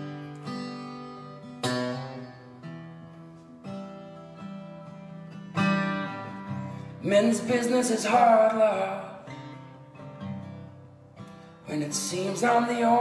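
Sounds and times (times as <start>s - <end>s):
acoustic guitar chords strummed: 0.0s - 13.0s.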